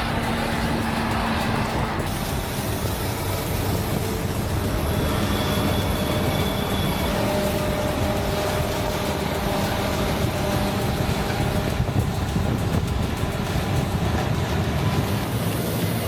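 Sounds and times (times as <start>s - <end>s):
heavy machinery engine drone: 0.0s - 16.0s.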